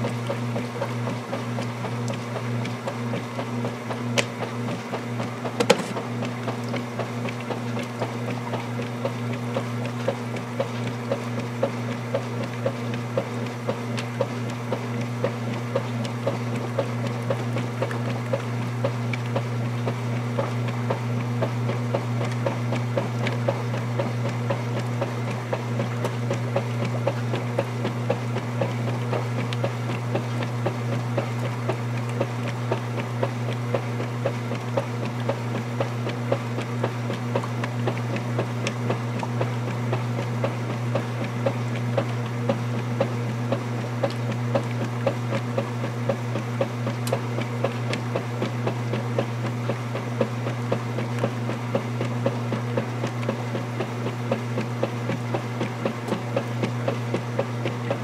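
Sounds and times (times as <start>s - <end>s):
agitator churning water: 0.0s - 58.0s
washing machine motor humming: 0.0s - 58.0s.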